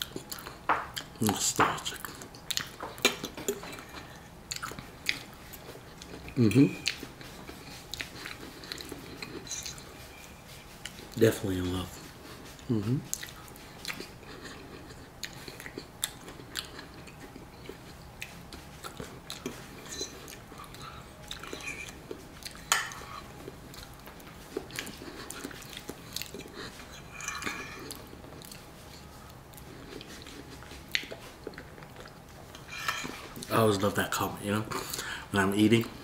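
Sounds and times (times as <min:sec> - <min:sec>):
chewing and mouth noises: 0:00.0 - 0:33.5.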